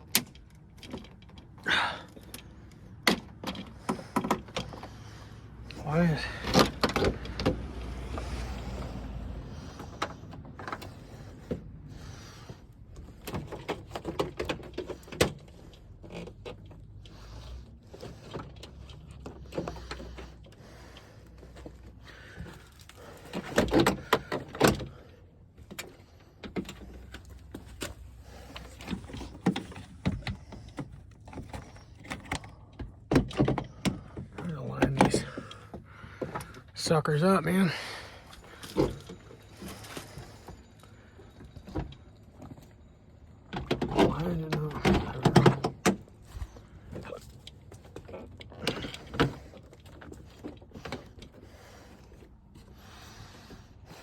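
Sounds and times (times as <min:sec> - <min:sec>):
clicks knocks and rattles of handwork: 0:00.0 - 0:08.5, 0:12.7 - 0:36.7, 0:41.4 - 0:52.8.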